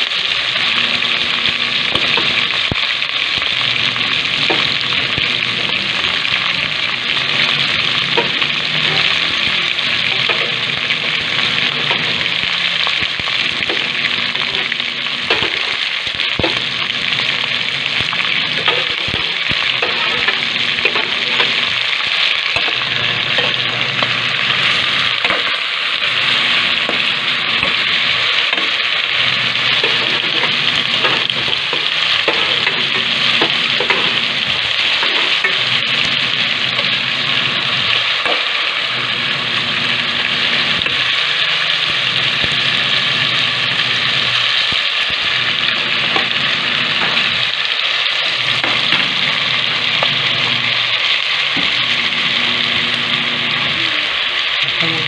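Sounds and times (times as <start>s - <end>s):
meat sizzling in a pot: 0.0s - 55.0s.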